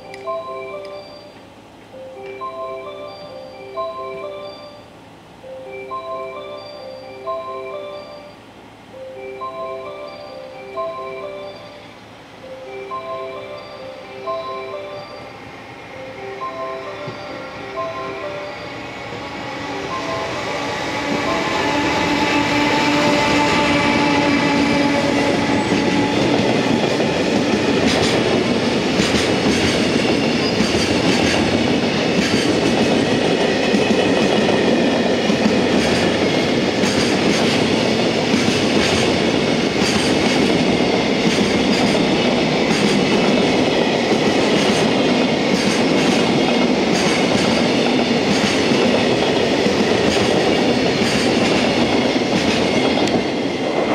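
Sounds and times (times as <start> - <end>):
locomotive steady tone: 0.0 - 53.9
train wagons rumbling past: 0.0 - 53.9.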